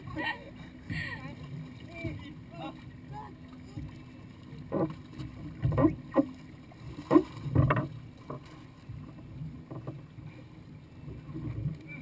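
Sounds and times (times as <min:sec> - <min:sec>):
water slapping and splashing: 0:00.0 - 0:12.0.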